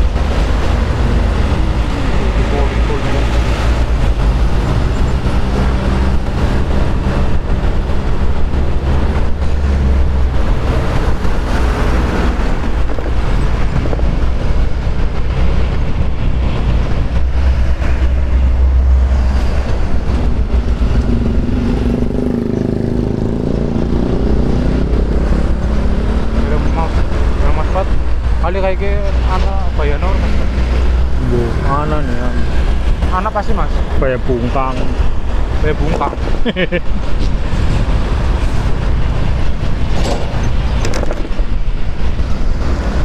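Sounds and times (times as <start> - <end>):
wind noise on microphone: 0.0 - 29.2, 32.2 - 43.0
low road rumble: 0.0 - 43.0
truck engines running: 0.0 - 43.0.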